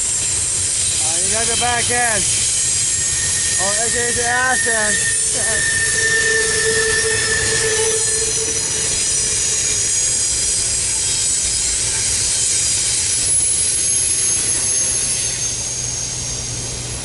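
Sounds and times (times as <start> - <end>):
high-pitched wheel squeal: 0.0 - 17.0
steel wheels rumbling on rail: 0.0 - 17.0.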